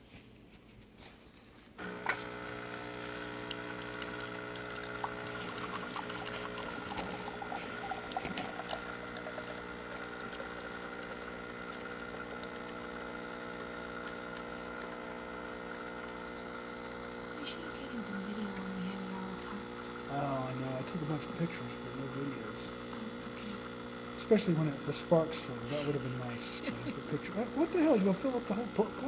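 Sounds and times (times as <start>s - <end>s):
coffee pouring into cup: 1.8s - 29.0s
espresso machine pump humming: 1.8s - 29.0s.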